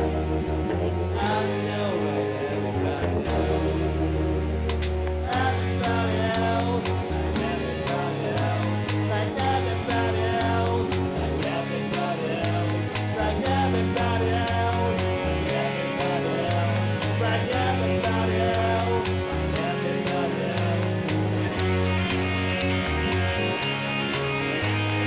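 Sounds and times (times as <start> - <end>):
electric guitar: 0.0 - 25.0
held low notes: 0.0 - 25.0
person singing: 1.0 - 4.2, 5.2 - 22.3
drum machine beat: 4.7 - 25.0.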